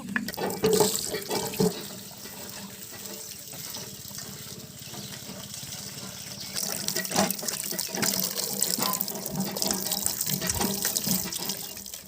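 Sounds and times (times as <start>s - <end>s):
water splashing as fish is washed: 0.2s - 12.0s.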